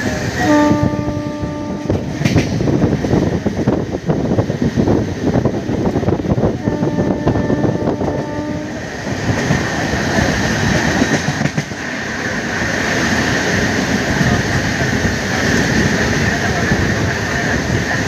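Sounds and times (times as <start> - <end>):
train wheels rumbling on track: 0.0 - 18.0
rushing air: 1.7 - 18.0.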